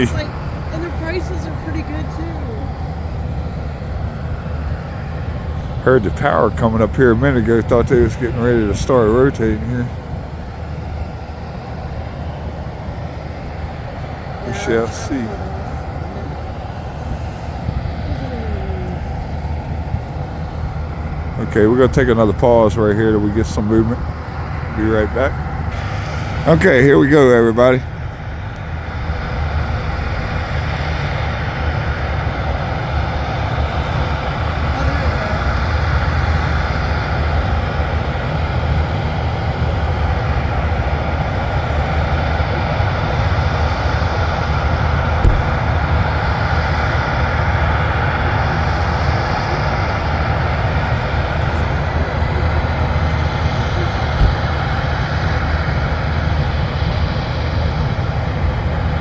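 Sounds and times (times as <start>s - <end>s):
aircraft engines rushing and rumbling: 0.0s - 59.0s
faint engine whine: 0.0s - 59.0s.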